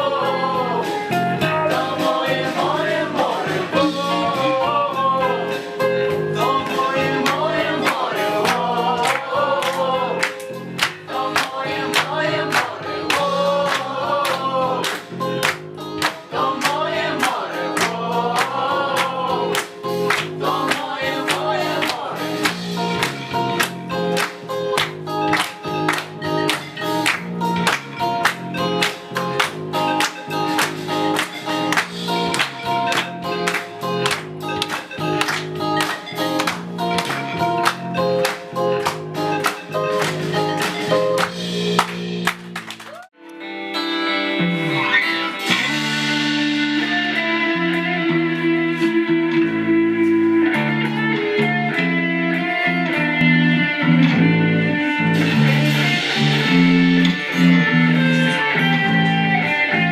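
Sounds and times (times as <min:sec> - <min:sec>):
guitar ringing chords and picked notes: 0:00.0 - 0:59.9
guitar strumming chords: 0:00.0 - 0:59.9.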